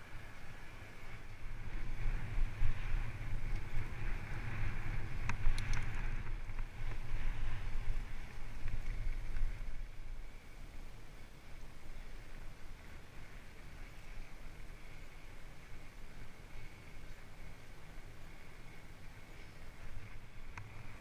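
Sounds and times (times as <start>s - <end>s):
bike tyres rolling: 0.0s - 21.0s
wind buffeting microphone: 0.0s - 21.0s.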